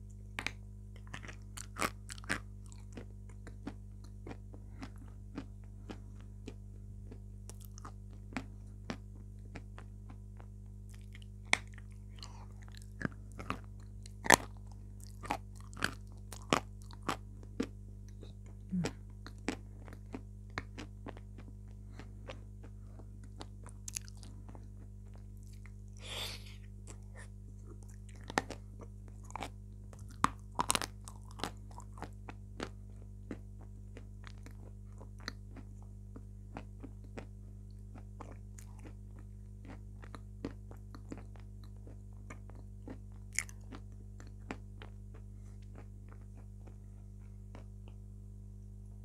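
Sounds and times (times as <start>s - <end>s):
wet mouth clicks and chewing: 0.3s - 46.8s.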